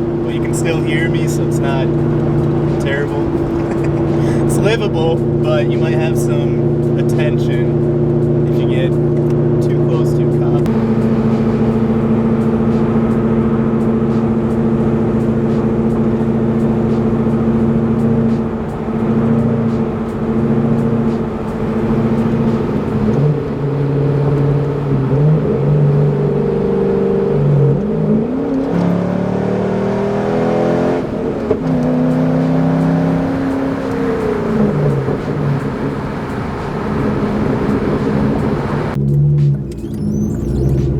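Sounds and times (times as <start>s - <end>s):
car exhaust drone: 0.0s - 40.9s.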